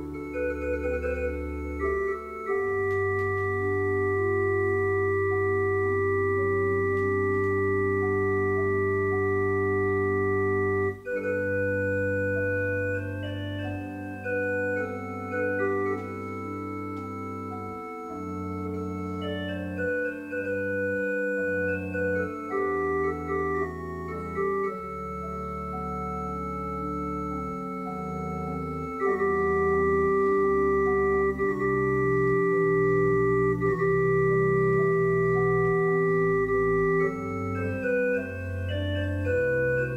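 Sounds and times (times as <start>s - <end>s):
church organ playing: 0.0s - 39.9s.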